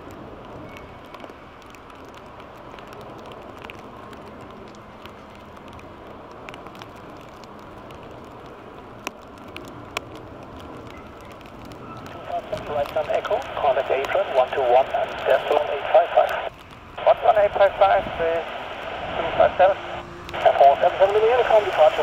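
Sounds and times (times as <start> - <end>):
rain and wind hiss: 0.0 - 22.0
raindrops ticking: 0.0 - 22.0.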